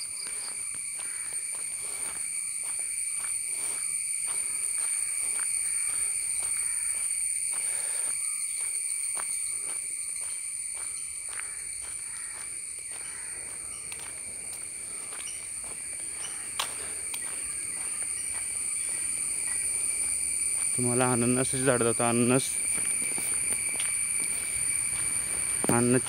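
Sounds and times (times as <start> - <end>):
high-pitched insect chorus: 0.0 - 26.0
footsteps walking: 0.3 - 26.0.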